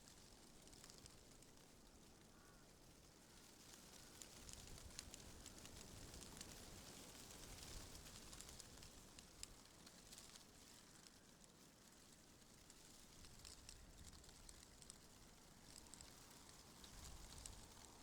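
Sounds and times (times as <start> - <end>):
leaves rustling: 3.2 - 18.0.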